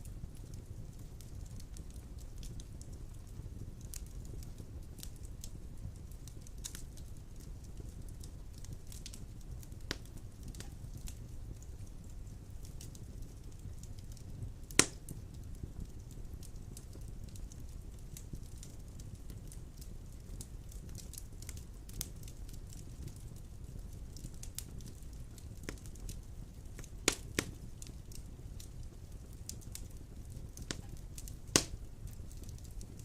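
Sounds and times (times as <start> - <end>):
loud pops from fire: 0.0 - 33.0
wood fire crackling: 0.0 - 33.0.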